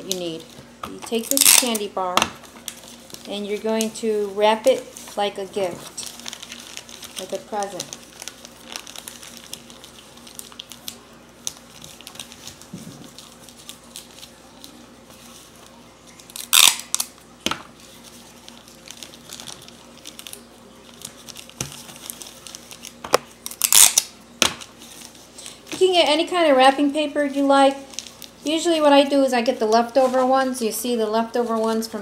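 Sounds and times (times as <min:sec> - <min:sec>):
wrapping paper crinkling: 0:00.0 - 0:32.0.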